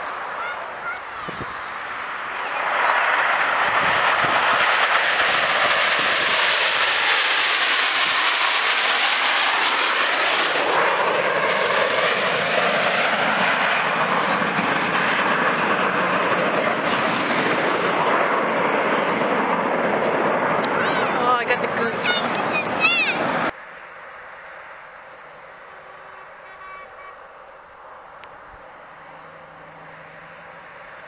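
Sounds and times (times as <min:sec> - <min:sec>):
jet aircraft roaring past: 0:00.0 - 0:31.0.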